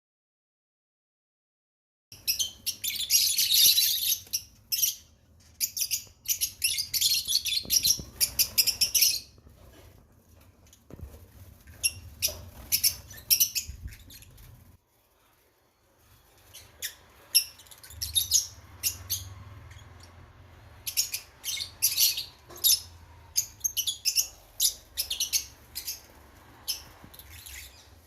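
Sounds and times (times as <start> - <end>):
lovebirds chirping and squeaking: 2.2 - 28.0.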